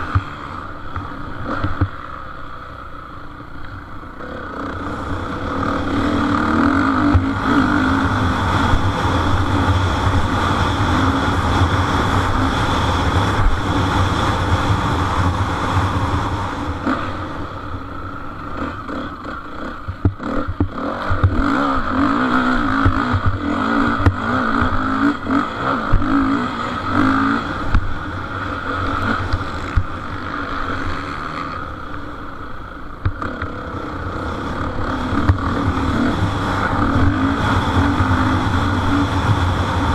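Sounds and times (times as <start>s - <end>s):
motocross engines revving: 0.0s - 32.2s, 33.1s - 39.9s.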